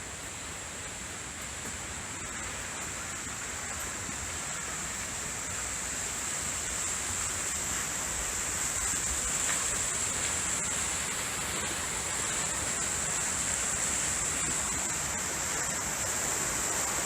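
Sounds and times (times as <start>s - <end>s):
steady high hiss: 0.0s - 17.0s
waterfall rushing: 1.9s - 17.0s.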